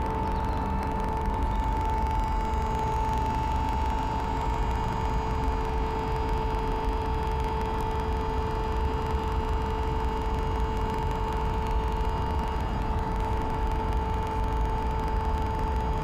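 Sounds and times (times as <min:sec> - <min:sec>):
low street traffic rumble: 0:00.0 - 0:16.0
steady held tone: 0:00.0 - 0:16.0.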